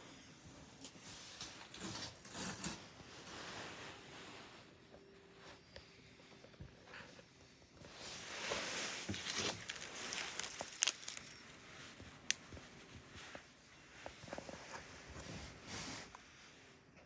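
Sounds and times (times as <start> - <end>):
rustling and scuffling: 0.6 - 16.4.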